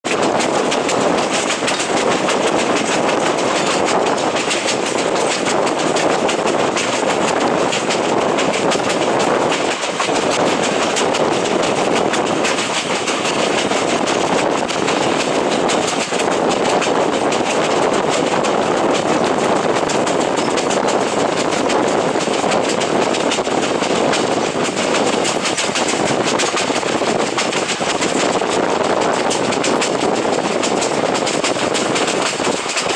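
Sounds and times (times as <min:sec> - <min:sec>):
train wheels on rails: 0:00.0 - 0:32.9.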